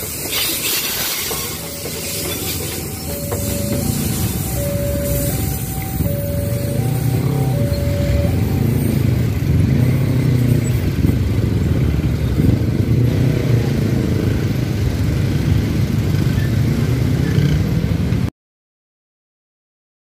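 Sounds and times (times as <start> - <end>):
train rumbling along track: 0.0 - 18.3.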